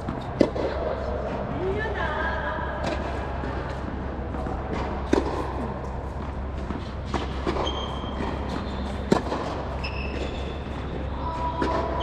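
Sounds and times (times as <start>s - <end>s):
tennis balls struck with rackets: 0.0s - 1.5s, 2.7s - 12.0s
steady low hum: 0.0s - 12.0s.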